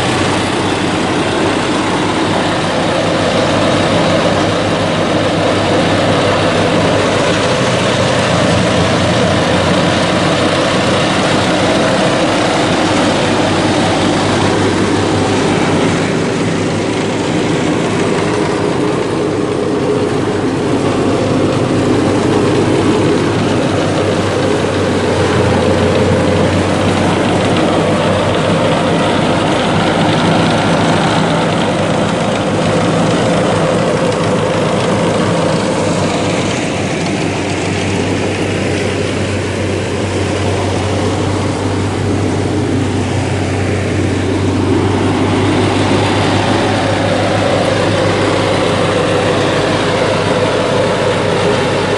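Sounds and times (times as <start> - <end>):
diesel engine running under load: 0.0 - 51.9
flail rotor cutting grass: 0.0 - 51.9.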